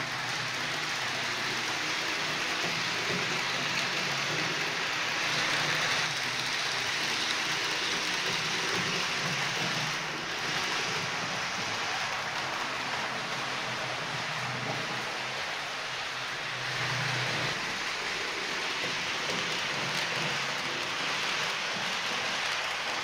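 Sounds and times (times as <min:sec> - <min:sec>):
model train wheels on rails: 0:00.0 - 0:23.0.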